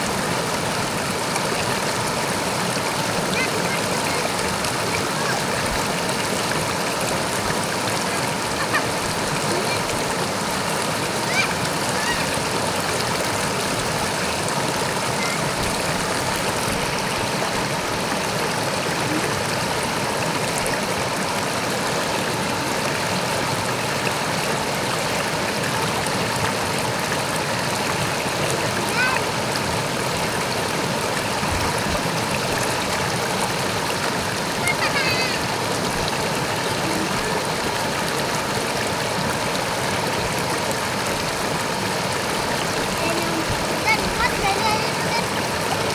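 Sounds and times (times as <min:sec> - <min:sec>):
river rushing over rocks: 0:00.0 - 0:45.9.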